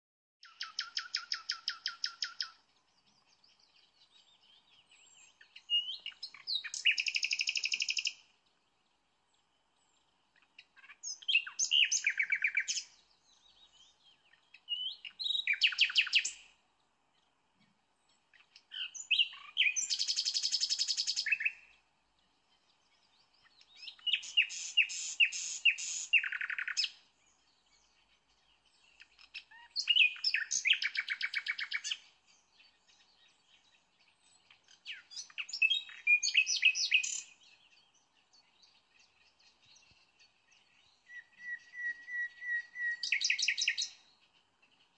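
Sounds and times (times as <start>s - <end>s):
songbird singing: 0.4s - 44.9s.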